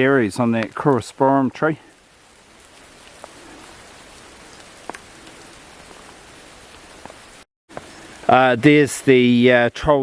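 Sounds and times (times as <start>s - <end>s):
water dripping from trees: 0.0s - 9.4s.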